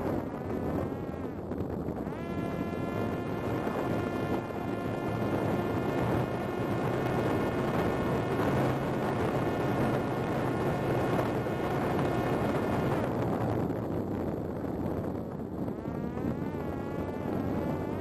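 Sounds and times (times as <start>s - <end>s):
drone motor whining: 0.0s - 13.7s, 15.6s - 18.0s.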